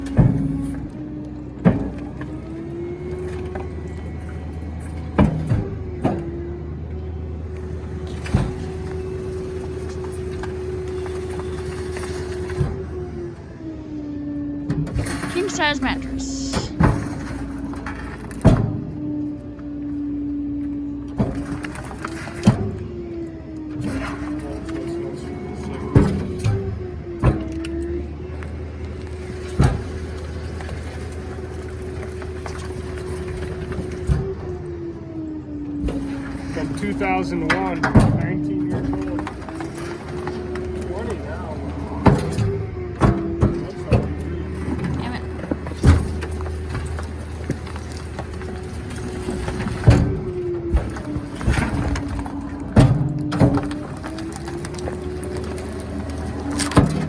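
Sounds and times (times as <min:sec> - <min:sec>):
garbage truck running: 0:00.0 - 0:57.0
hydraulic packer whine: 0:00.0 - 0:57.0.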